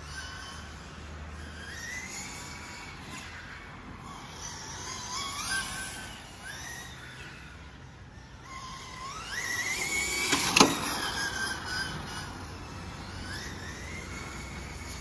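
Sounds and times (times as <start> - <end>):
toy car electric motor whining: 0.0 - 15.0.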